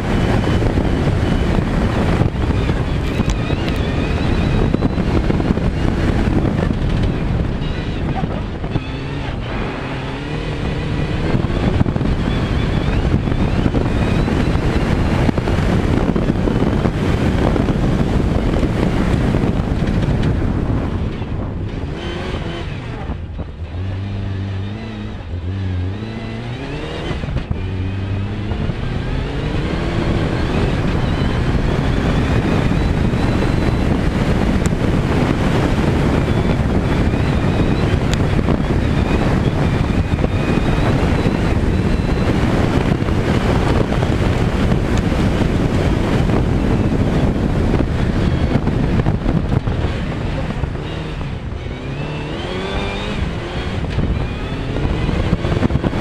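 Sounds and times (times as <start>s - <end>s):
rally car engine shifting gears: 0.0s - 56.0s
wind on microphone: 0.0s - 56.0s.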